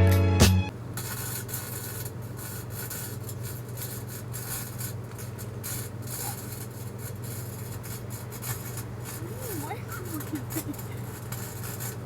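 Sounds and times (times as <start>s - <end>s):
microwave oven humming: 0.7s - 12.0s
rasping hiss: 0.9s - 12.0s.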